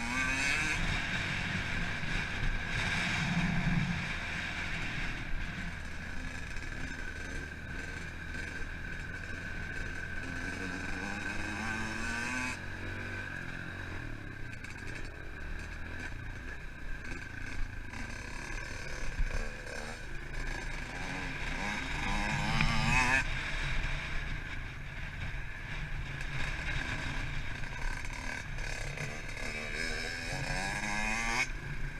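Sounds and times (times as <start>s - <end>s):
pit bike engine revving: 0.0s - 31.9s.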